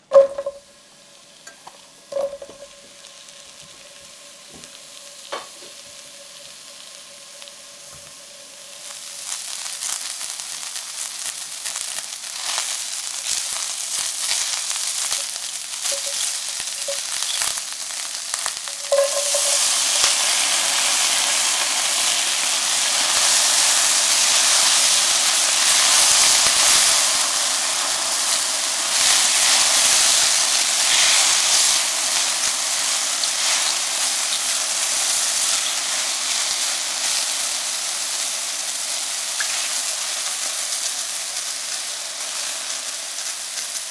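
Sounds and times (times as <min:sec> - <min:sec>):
mushrooms sizzling in a pan: 0:00.0 - 0:43.9.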